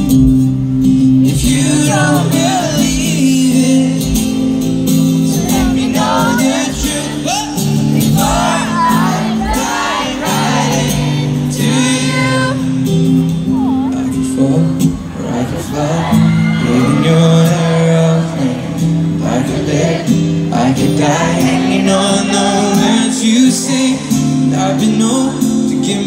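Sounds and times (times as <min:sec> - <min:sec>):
strummed acoustic guitar chords: 0:00.0 - 0:26.0
man singing melismatic vocals: 0:01.0 - 0:26.0.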